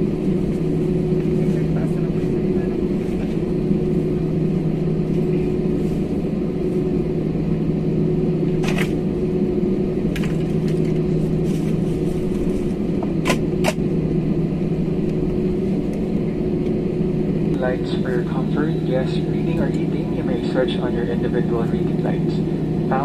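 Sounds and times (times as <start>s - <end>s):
airliner cabin drone: 0.0s - 23.0s
jet engines idling hum: 0.0s - 23.0s.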